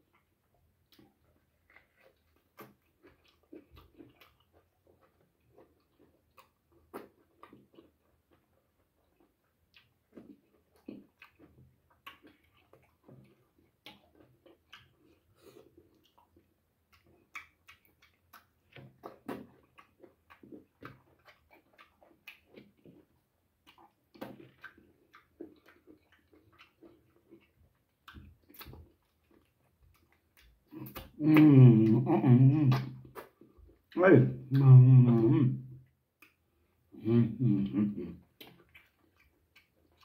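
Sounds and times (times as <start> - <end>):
chewing and lip-smacking: 0.0 - 40.0
soft wet clicks of meat: 0.1 - 31.4, 35.9 - 36.5, 38.3 - 40.0.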